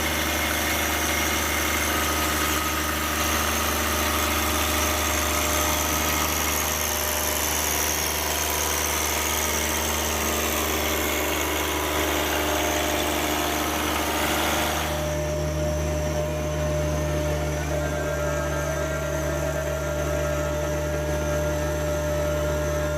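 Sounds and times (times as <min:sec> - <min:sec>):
tractor engine running: 0:00.0 - 0:22.9.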